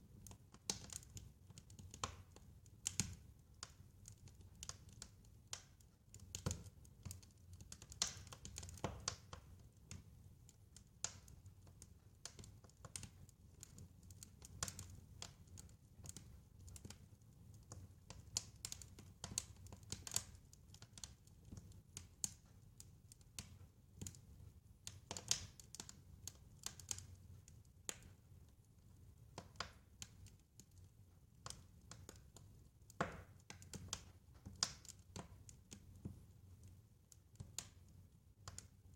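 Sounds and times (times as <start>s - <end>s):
fire pops and snaps: 0.1s - 38.8s.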